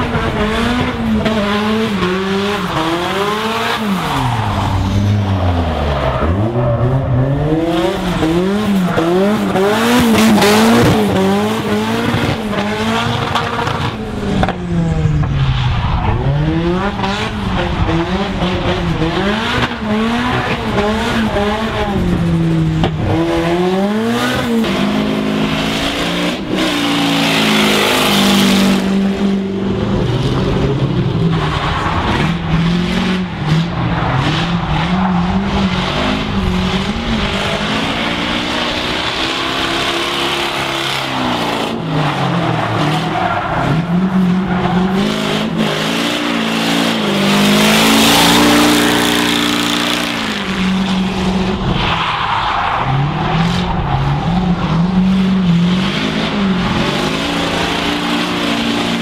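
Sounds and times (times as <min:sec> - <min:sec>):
car engine revving hard: 0:00.0 - 0:15.2, 0:16.1 - 0:51.8, 0:53.0 - 0:59.0.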